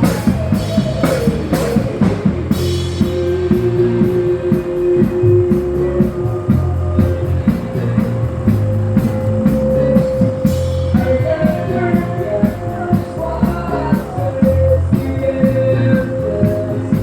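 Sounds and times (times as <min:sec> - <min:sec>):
rock song with bass drums guitar: 0:00.0 - 0:17.0.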